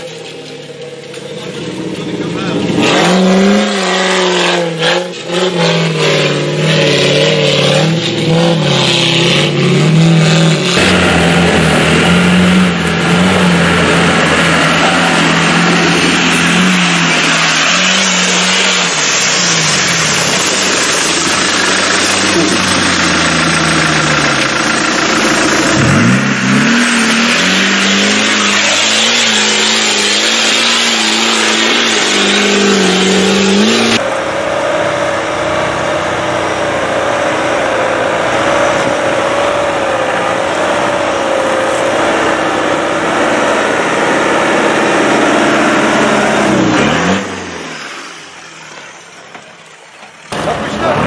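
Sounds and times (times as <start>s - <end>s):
engine revving hard: 1.7s - 48.4s.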